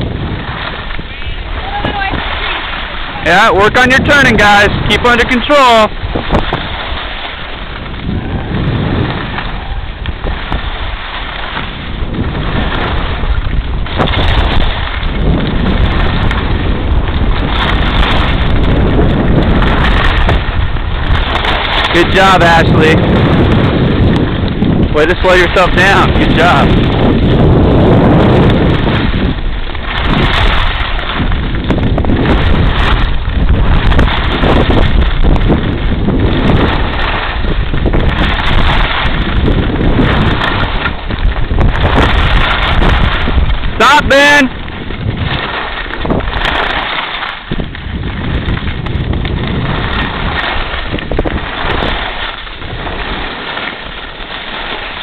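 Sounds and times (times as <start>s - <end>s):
skis scraping packed snow: 0.0s - 55.0s
wind buffeting microphone: 0.0s - 55.0s.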